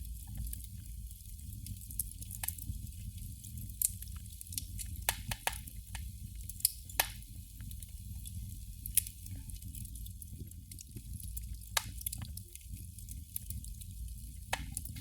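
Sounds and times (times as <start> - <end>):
candle flame crackling: 0.0 - 15.0.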